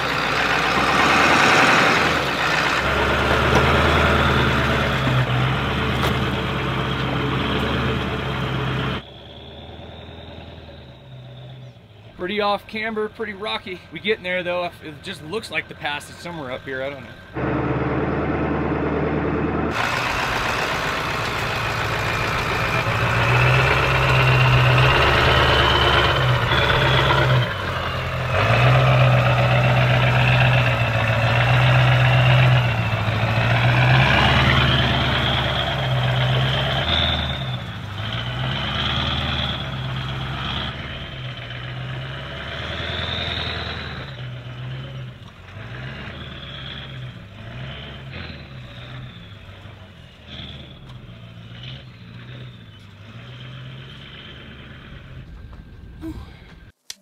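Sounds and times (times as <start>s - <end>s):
diesel truck engine under load: 0.0s - 56.8s.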